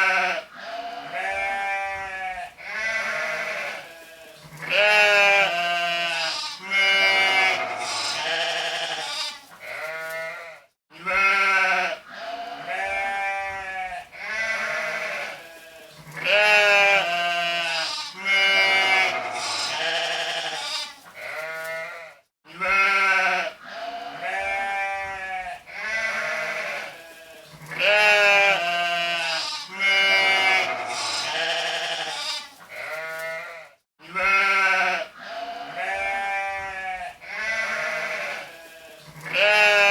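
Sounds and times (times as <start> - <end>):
sheep bleating: 0.0 - 39.9.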